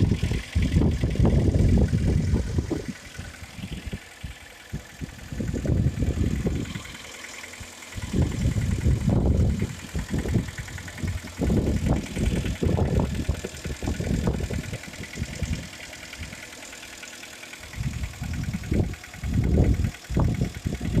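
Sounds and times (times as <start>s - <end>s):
wind buffeting microphone: 0.0s - 7.0s, 7.6s - 16.5s, 17.6s - 21.0s
car engine idling with knock: 0.0s - 21.0s.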